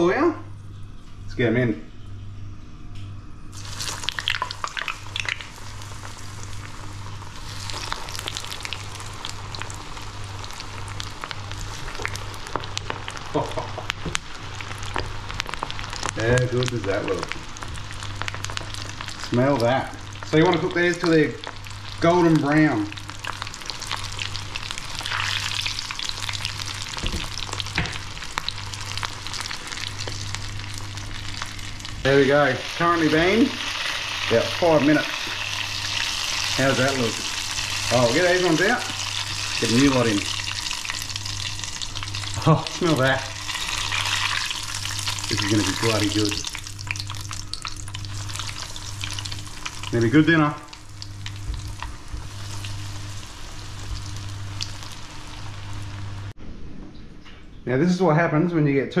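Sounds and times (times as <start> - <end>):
low steady hum: 0.0 - 59.0
oil sizzling and crackling: 3.5 - 56.4.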